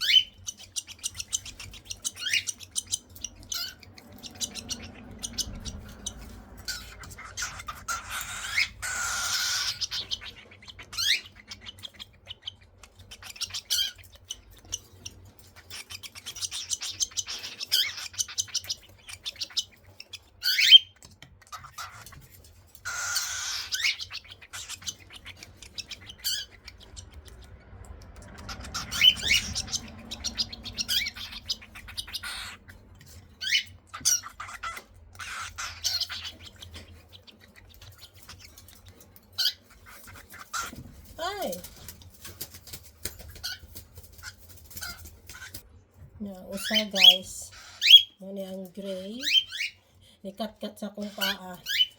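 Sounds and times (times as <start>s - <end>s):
baby birds raspy begging calls: 0.0s - 27.5s, 28.3s - 41.8s, 46.2s - 49.8s, 50.9s - 51.9s.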